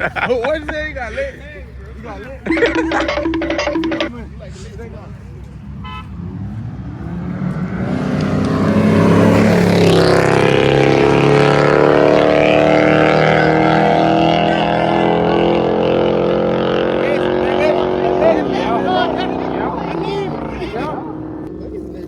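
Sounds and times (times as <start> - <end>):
car engines accelerating hard: 0.0 - 22.0.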